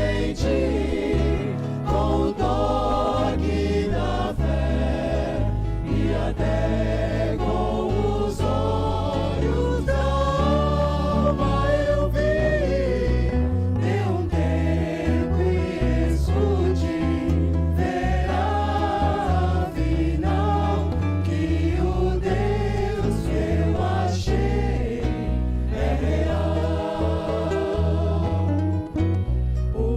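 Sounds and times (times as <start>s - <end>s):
bass line: 0.0s - 29.9s
choir singing gospel song: 0.0s - 29.9s.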